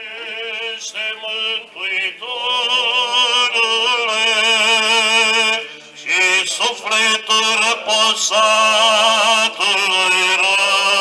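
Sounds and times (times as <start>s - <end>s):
man chanting a hymn: 0.0s - 11.0s.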